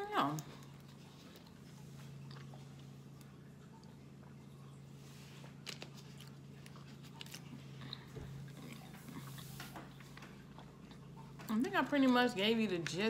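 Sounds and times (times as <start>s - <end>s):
steady low hum: 0.0s - 13.0s
quiet chewing: 0.3s - 11.7s.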